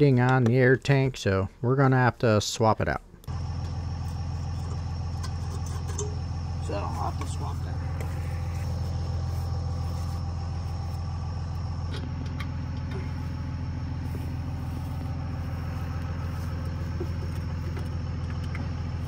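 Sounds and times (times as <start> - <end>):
vehicle engine idling: 3.2 - 19.0.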